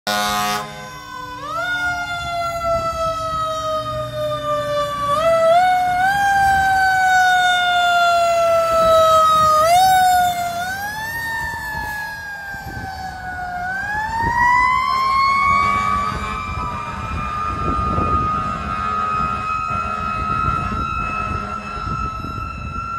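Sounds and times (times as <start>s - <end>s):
fire engine siren wailing: 0.1s - 22.9s
truck engine rumble: 0.1s - 22.9s.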